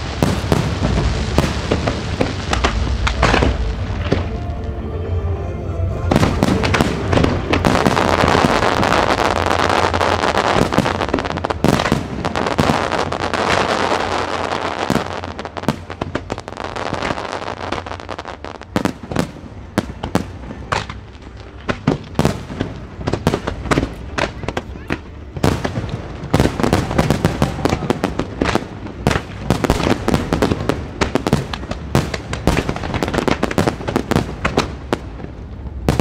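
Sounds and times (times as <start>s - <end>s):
fireworks crackling and banging: 0.0s - 4.8s, 6.1s - 36.0s.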